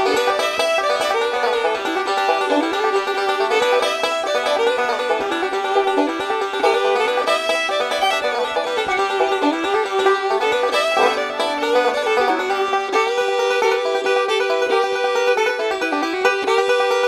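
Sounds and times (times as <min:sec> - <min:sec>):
bluegrass music with banjo: 0:00.0 - 0:17.0.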